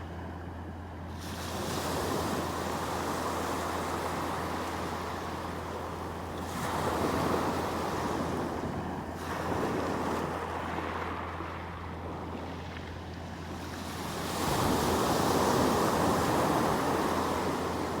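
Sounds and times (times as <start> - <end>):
sea waves breaking on shore: 1.2 - 18.0.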